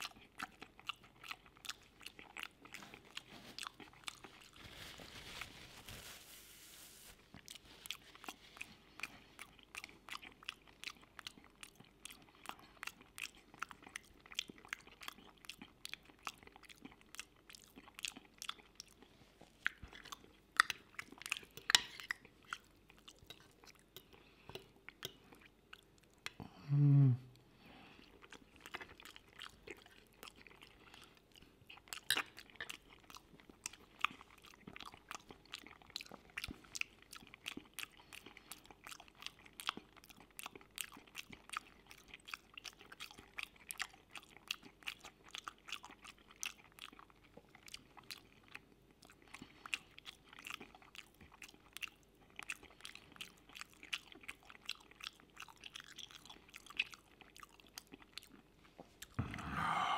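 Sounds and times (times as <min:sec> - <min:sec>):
close-miked chewing with mouth smacks: 0:00.0 - 0:04.8, 0:07.3 - 0:26.5, 0:27.3 - 0:59.3.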